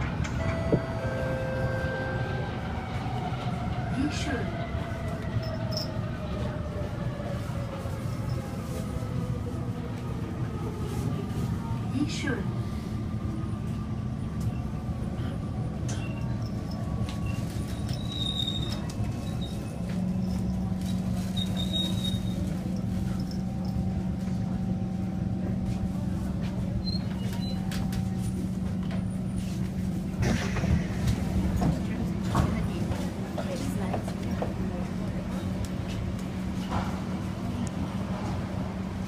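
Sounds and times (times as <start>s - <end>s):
voices: 0.0s - 7.8s, 11.0s - 39.0s
train car rumbling hum: 0.0s - 39.0s.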